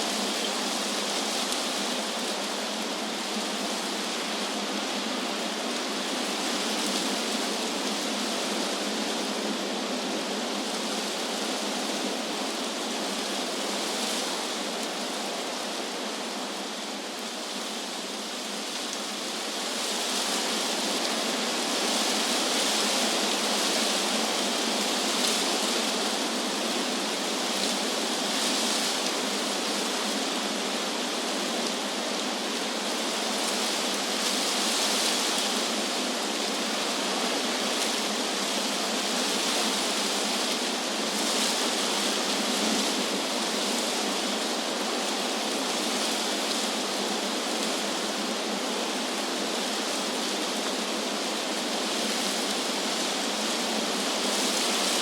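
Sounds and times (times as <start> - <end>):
wind rustling tree leaves: 0.0 - 55.0.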